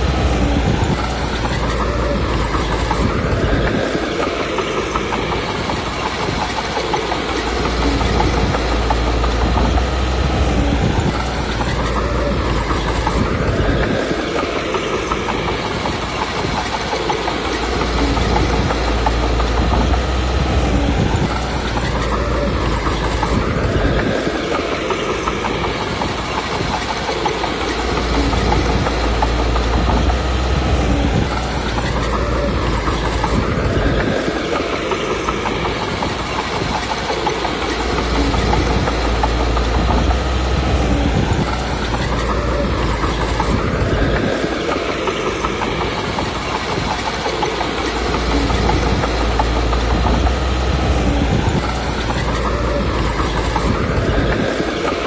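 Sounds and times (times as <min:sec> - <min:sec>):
diesel engine under load: 0:00.0 - 0:55.0
steel track clatter: 0:00.0 - 0:55.0.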